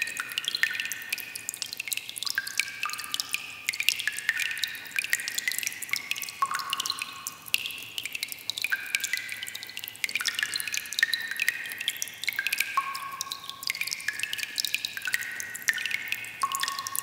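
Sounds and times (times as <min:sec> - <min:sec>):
water dripping in a cave: 0:00.0 - 0:17.0.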